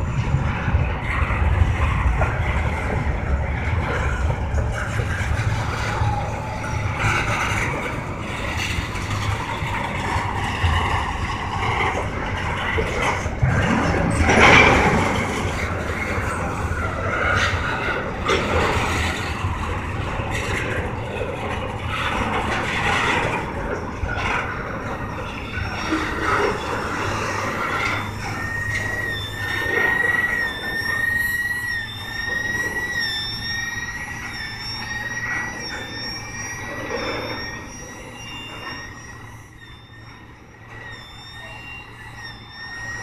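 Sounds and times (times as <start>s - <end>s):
high-pitched wheel squeal: 0.0s - 43.0s
train rumble: 0.0s - 43.0s.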